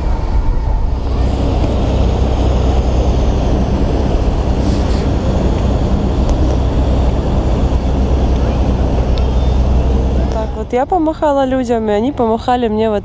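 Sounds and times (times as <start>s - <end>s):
boat diesel engine drone: 0.0s - 13.0s.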